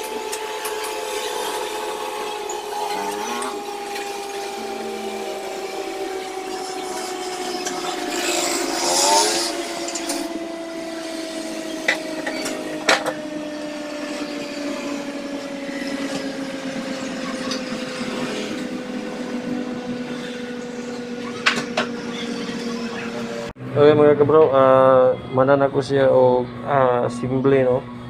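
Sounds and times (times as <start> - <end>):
two-tone motor hum: 0.0 - 28.0.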